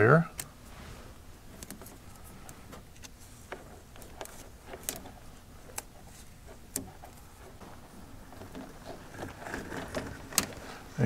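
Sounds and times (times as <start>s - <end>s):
electrical tape clicks and crackles: 1.4s - 10.8s.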